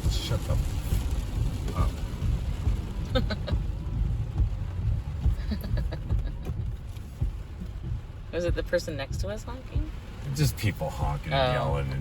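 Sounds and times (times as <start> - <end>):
car road rumble inside cabin: 0.0 - 12.0.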